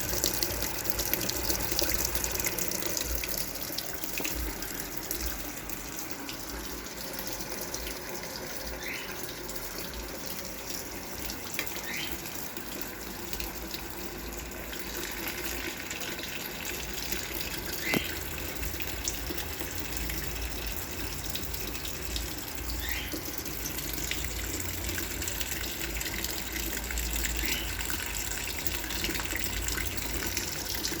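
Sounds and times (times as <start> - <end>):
water running in washing machine: 0.0 - 31.0.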